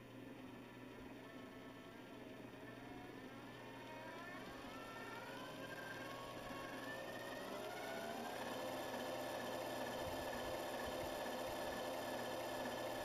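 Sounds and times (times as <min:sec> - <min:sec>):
small electric motor whining: 0:01.2 - 0:13.0.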